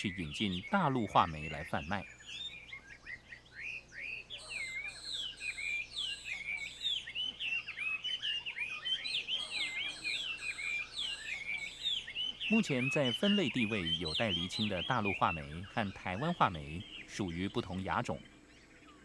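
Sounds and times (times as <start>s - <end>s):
bird singing whistled phrases: 0.0s - 19.0s.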